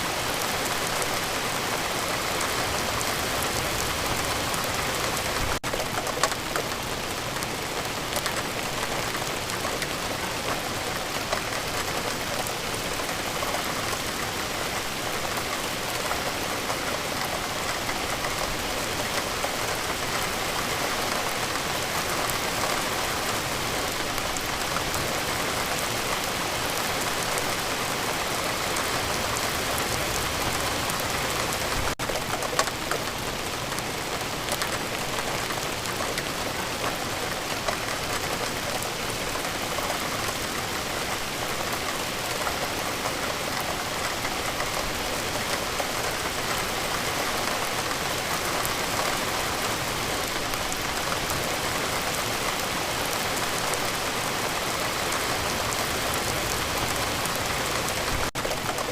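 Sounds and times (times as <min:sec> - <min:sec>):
steady rain on a surface: 0:00.0 - 0:58.9.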